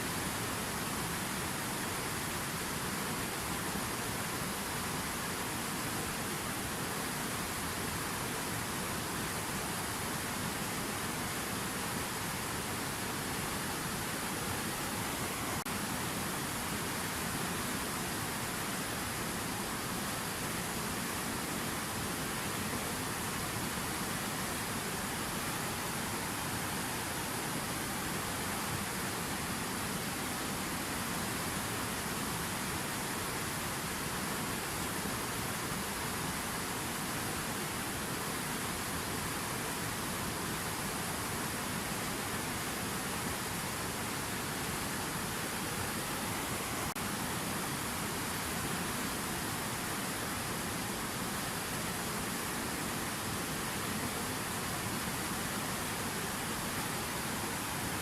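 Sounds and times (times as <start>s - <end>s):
rush of falling water: 0.0s - 58.0s.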